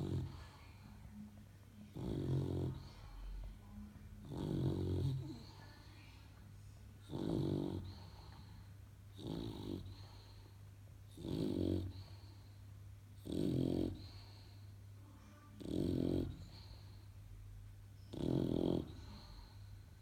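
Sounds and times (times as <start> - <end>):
puppy snoring: 0.0 - 1.2, 1.9 - 3.6, 4.2 - 6.0, 7.0 - 14.8, 15.5 - 17.2, 18.1 - 20.0
steady low hum: 0.0 - 20.0.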